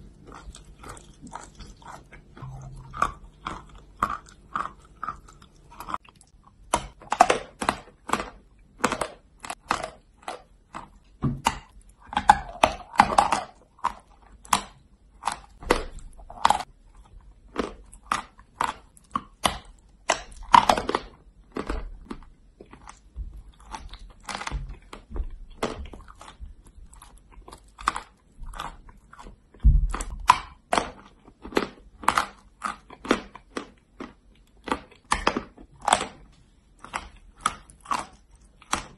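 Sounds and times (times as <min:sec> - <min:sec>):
chalk crunching and chewing: 0:00.0 - 0:38.9.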